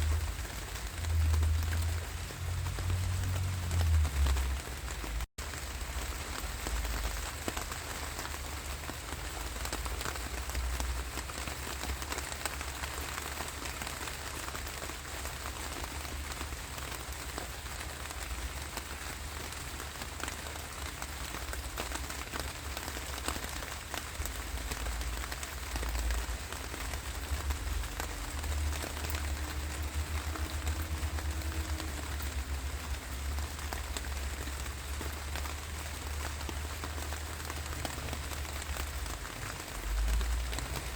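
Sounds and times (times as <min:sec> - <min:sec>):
rain hissing: 0:00.0 - 0:13.4, 0:14.0 - 0:40.9
raindrops ticking: 0:00.0 - 0:40.9.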